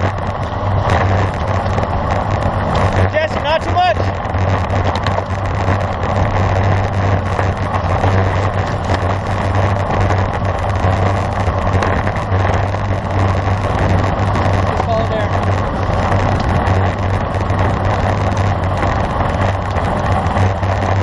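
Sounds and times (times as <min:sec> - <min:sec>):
wind rushing on microphone: 0:00.0 - 0:21.0.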